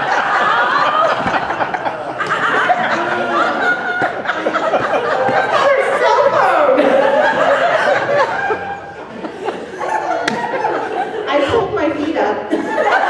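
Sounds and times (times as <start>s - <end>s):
congregation laughing: 0.0s - 13.0s.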